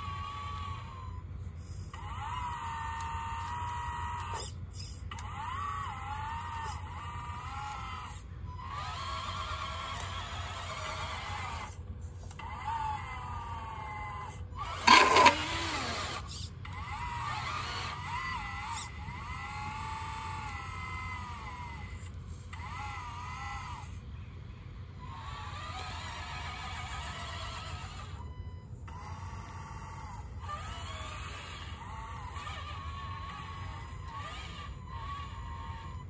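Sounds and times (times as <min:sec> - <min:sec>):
electric motors whining: 0:00.0 - 0:36.0.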